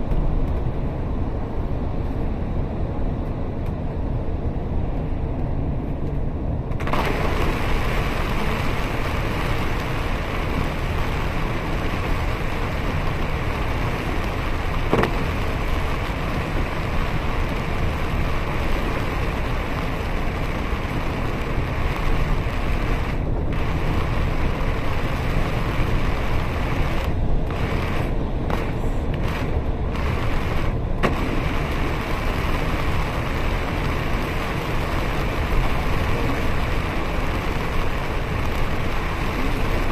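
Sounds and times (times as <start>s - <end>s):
bus engine: 0.0s - 39.9s
rain on bus bodywork: 6.7s - 39.9s
tyres hissing through water: 7.0s - 39.9s.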